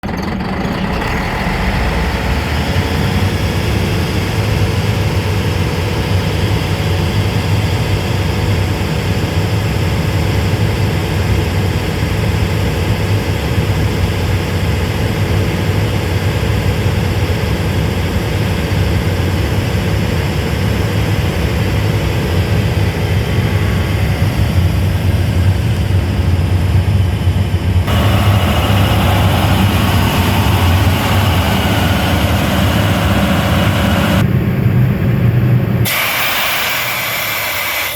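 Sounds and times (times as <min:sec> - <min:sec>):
air compressor diesel engine droning: 0:00.0 - 0:37.9.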